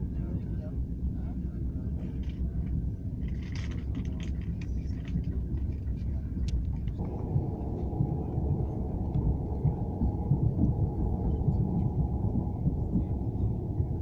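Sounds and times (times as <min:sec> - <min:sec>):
train wheels rumbling on rails: 0:01.9 - 0:14.0.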